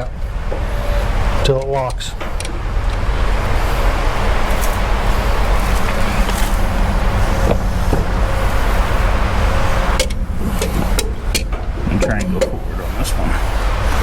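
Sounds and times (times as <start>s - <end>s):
loader engine idling: 0.0s - 14.0s.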